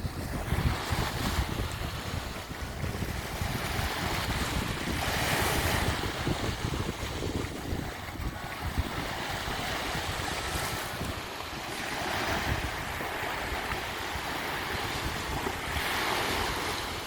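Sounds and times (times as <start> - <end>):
sea waves breaking on beach: 0.0 - 17.0
wind buffeting microphone: 0.0 - 17.0.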